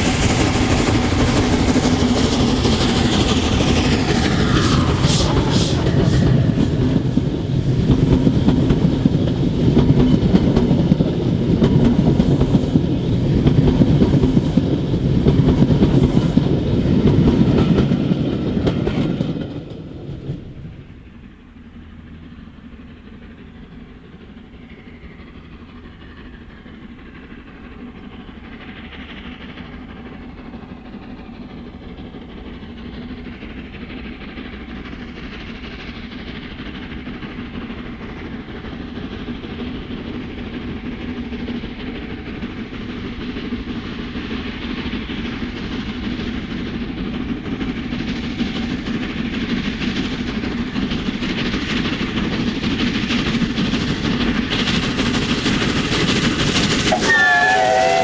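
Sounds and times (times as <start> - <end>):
distant steam locomotive working hard: 0.0 - 58.0
train coaches rumbling past: 0.0 - 58.0.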